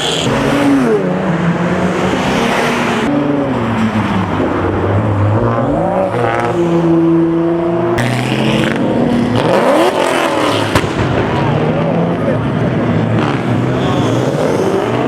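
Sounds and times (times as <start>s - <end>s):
car engines revving and accelerating: 0.0s - 15.0s.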